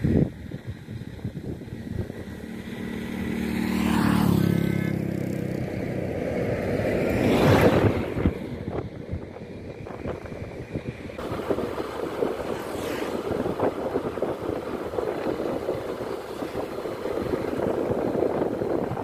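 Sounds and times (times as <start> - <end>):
motorbike engine and road noise: 0.0 - 19.0
wind buffeting microphone: 0.0 - 19.0.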